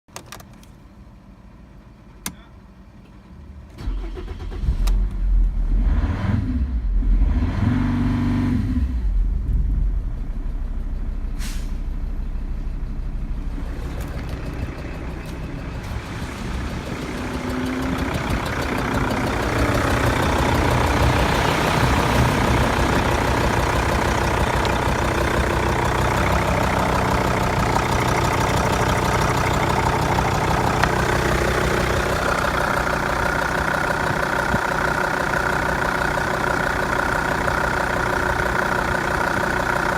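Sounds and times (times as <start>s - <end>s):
diesel engine starting and running: 0.1s - 39.9s.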